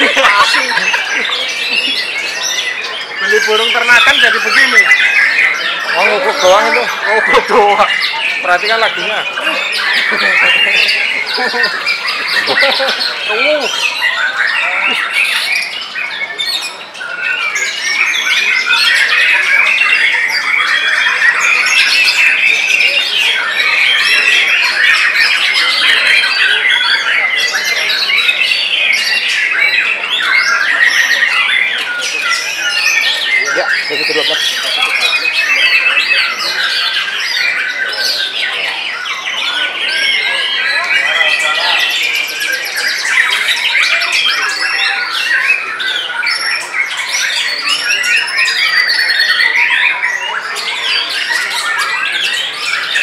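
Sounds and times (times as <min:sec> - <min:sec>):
birds singing in chorus: 0:00.0 - 0:53.0.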